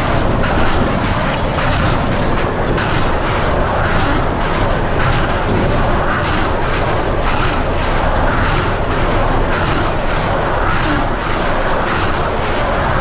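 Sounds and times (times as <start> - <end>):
faint regular baler pulse: 0.0 - 13.0
tractor diesel engine drone: 0.0 - 13.0.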